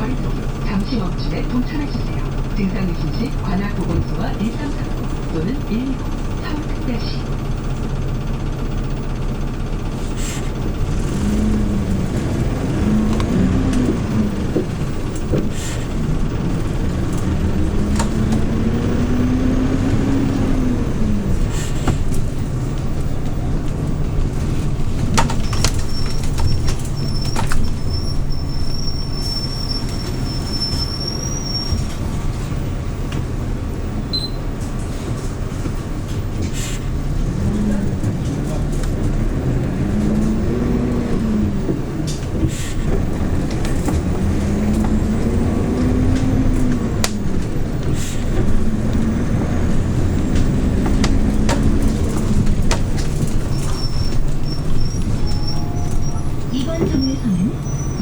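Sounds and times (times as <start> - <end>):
bus engine rumble: 0.0 - 58.0
engine whine: 0.0 - 58.0.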